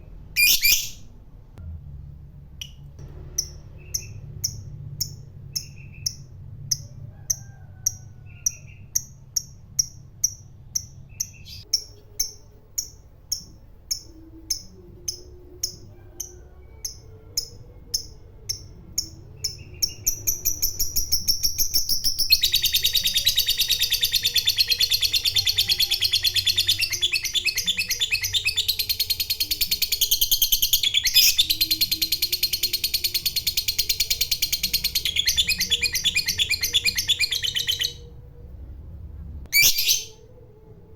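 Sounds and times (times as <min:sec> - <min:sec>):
lovebird chirping and trilling: 0:00.4 - 0:01.1, 0:03.4 - 0:06.9, 0:07.9 - 0:38.2, 0:39.5 - 0:40.3.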